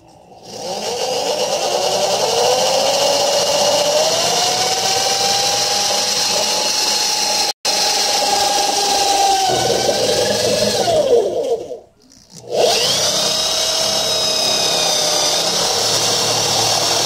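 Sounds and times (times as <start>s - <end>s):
power drill with hole saw: 0.4s - 17.0s.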